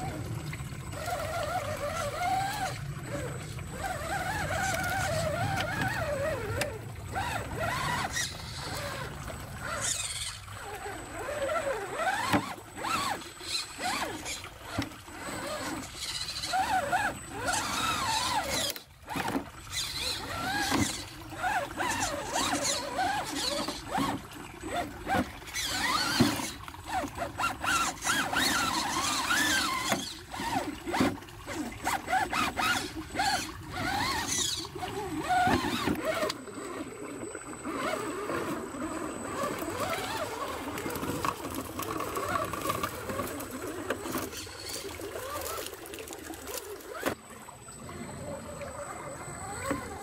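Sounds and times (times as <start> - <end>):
electric motor whining: 0.0 - 47.2, 47.9 - 50.0.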